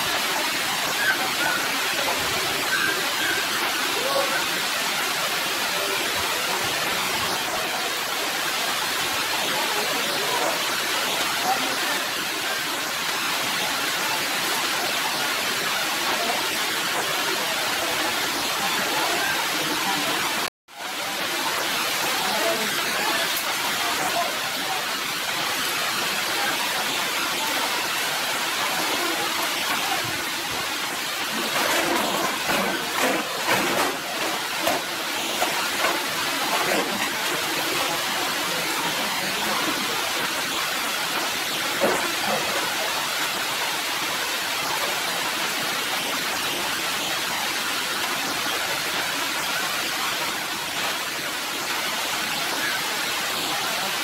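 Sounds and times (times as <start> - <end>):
heavy rain on foliage and concrete: 0.0 - 54.0.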